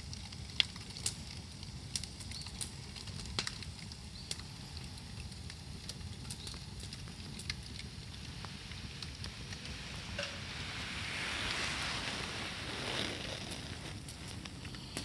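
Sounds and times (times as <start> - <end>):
bamboo fire crackling and popping: 0.0 - 15.0
low rush of fire: 0.0 - 15.0.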